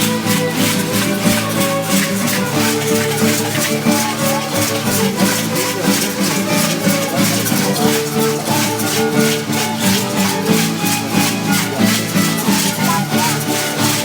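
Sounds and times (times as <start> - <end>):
shaken rattle beat: 0.0 - 14.0
string instruments playing melody: 0.0 - 14.0.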